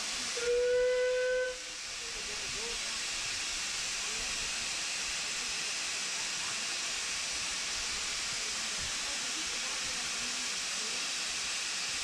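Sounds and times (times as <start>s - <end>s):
steam train hissing: 0.0s - 12.0s.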